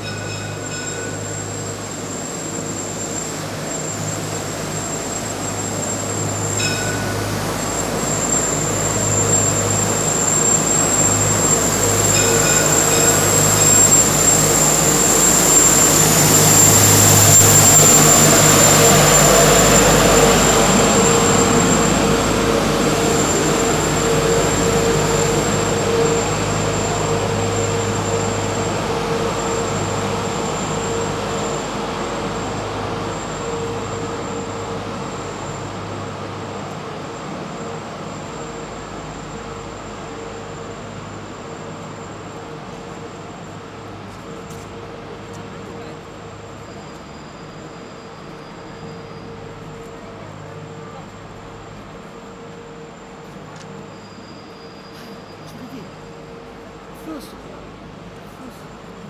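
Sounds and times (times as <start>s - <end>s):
tram hum and rumble: 0.0s - 59.0s.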